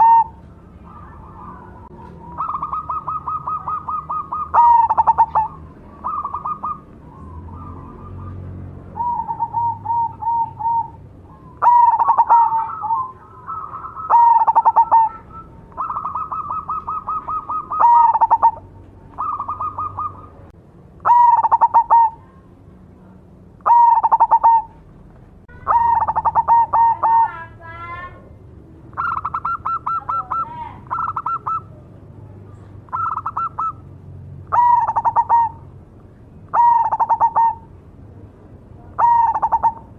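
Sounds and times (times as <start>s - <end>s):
dove cooing: 0.0s - 22.4s, 23.6s - 24.8s, 25.5s - 27.6s, 28.9s - 31.8s, 32.9s - 33.9s, 34.5s - 35.7s, 36.5s - 37.7s, 38.8s - 39.9s
wavering bird call: 0.0s - 22.4s, 23.6s - 24.8s, 25.5s - 28.2s, 28.9s - 31.8s, 32.8s - 33.9s, 34.5s - 35.7s, 36.4s - 37.7s, 38.8s - 39.9s.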